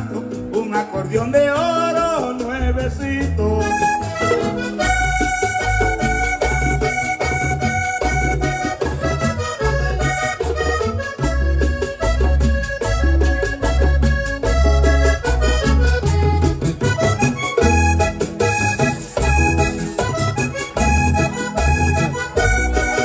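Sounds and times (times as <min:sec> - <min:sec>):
latin band music: 0:00.0 - 0:23.0
pulsing bass beat: 0:02.6 - 0:23.0
button accordion chords: 0:03.4 - 0:23.0.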